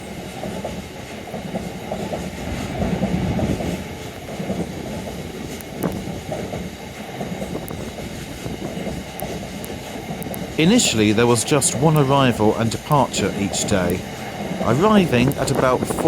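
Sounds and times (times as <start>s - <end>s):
diesel locomotive running: 0.0s - 16.0s
wheels clattering on track: 0.0s - 16.0s.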